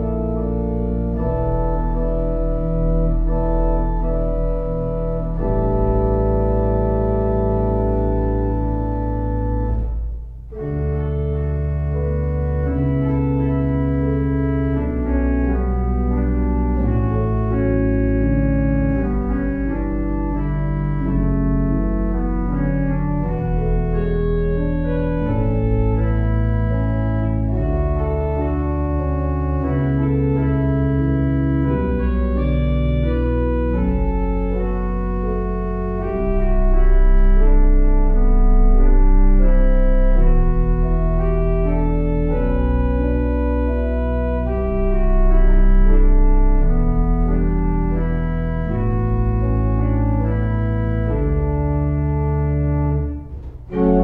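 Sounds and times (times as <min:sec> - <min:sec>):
organ chords: 0:00.0 - 0:54.0.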